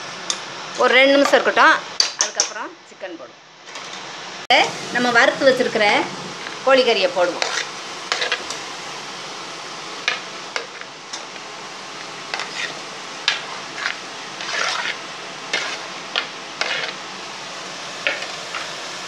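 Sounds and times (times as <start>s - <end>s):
gravy sizzling in pot: 3.6s - 19.0s.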